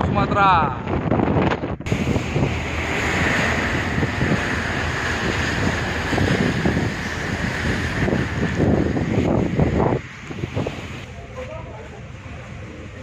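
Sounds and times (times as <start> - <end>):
wind on microphone: 0.0 - 11.1
rough sea waves: 0.0 - 13.0.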